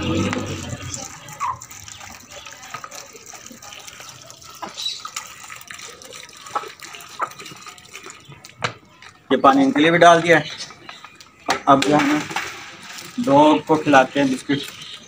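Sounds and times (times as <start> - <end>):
water trickling into plastic tub: 0.0 - 15.0.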